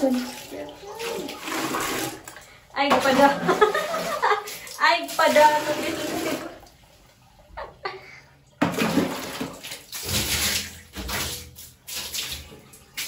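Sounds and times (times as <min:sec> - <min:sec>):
bath water splashing: 0:00.0 - 0:13.0.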